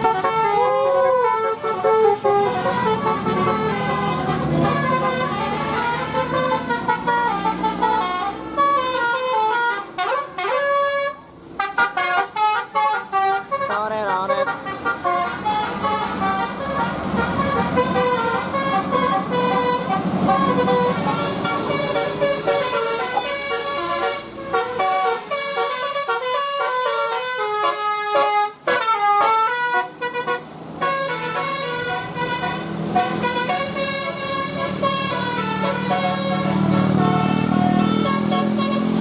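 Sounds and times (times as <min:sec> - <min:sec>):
bus engines running: 0:00.0 - 0:39.0
musical bus horns playing melodies: 0:00.0 - 0:39.0.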